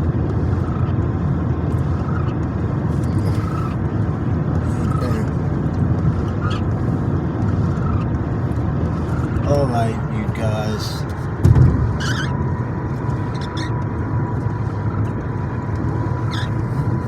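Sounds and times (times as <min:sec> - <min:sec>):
tyre and engine rumble: 0:00.0 - 0:17.0.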